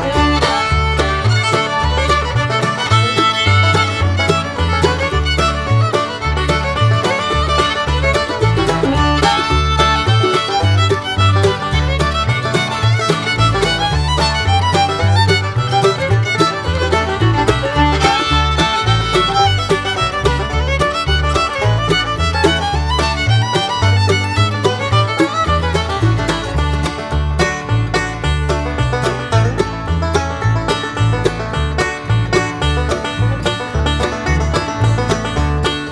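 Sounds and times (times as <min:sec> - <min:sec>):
banjo: 0:00.0 - 0:35.9
bouncing bass line: 0:00.0 - 0:35.9
fiddle: 0:00.0 - 0:35.9.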